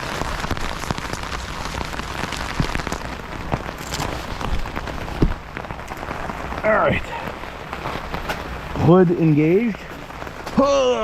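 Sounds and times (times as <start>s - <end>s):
freezing rain ticking: 0.0s - 11.0s.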